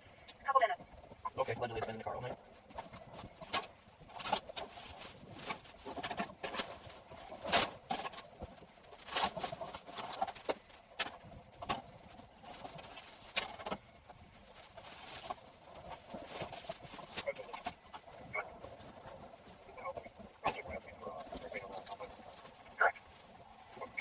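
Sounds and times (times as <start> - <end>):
faint rustle: 0.0 - 24.0.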